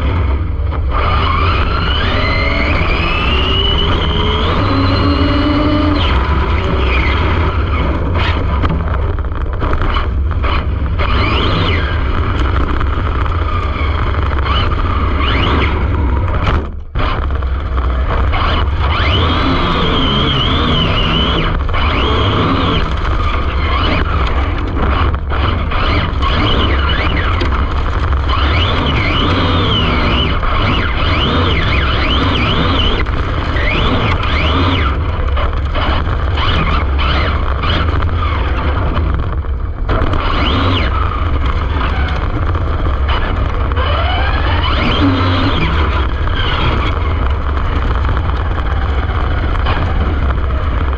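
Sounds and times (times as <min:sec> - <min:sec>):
electric motor whining: 0:00.0 - 0:50.9
wind rumble: 0:00.0 - 0:50.9.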